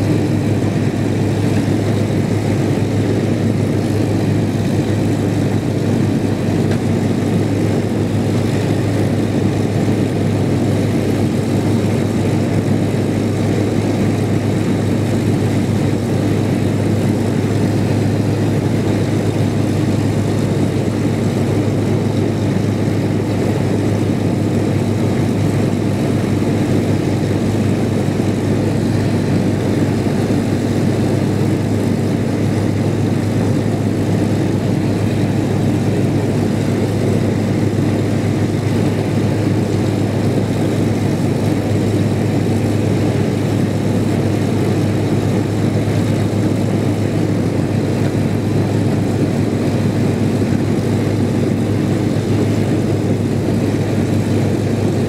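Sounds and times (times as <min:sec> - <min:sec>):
aircraft engines idling: 0:00.0 - 0:55.0.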